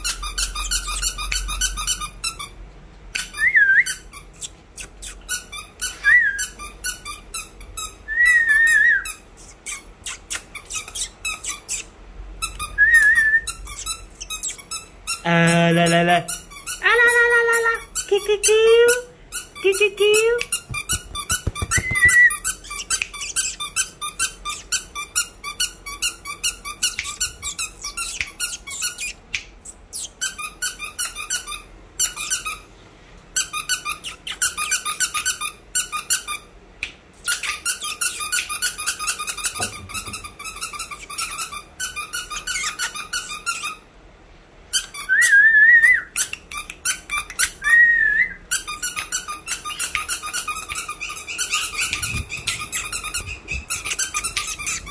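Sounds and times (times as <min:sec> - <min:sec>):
squeaky toy squeaking: 0:00.0 - 0:02.6, 0:03.2 - 0:32.7, 0:33.4 - 0:36.5, 0:37.2 - 0:43.8, 0:44.7 - 0:45.2, 0:46.2 - 0:47.6, 0:48.5 - 0:54.9.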